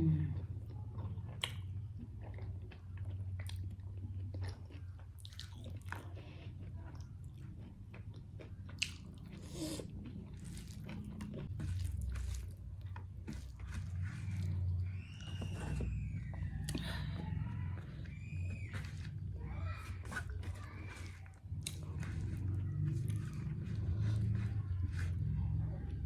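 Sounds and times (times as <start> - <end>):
person chewing food: 0.4 - 26.0.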